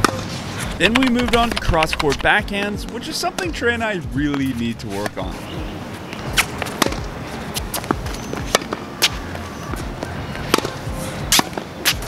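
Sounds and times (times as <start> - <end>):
tennis balls struck and bouncing: 0.0 - 3.6, 4.2 - 12.0
background music: 0.0 - 12.0.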